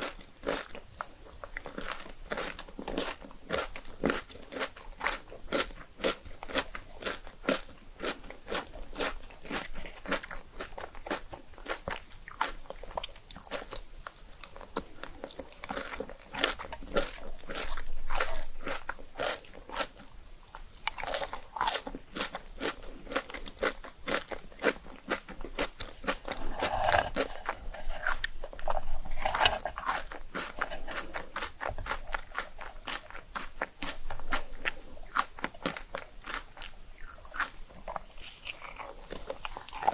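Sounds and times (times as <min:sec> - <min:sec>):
chewing crisp rice cakes: 0:00.0 - 0:39.9.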